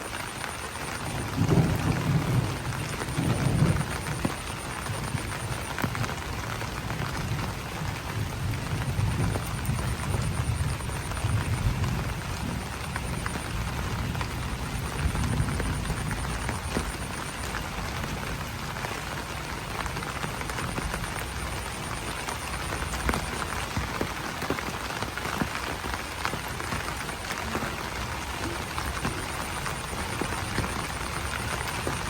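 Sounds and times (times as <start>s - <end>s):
rain on leaves: 0.0s - 32.0s.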